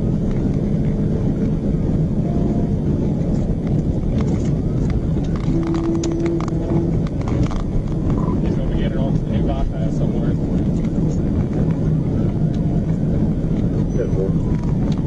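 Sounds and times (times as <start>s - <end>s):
car driving at high speed: 0.0s - 15.0s.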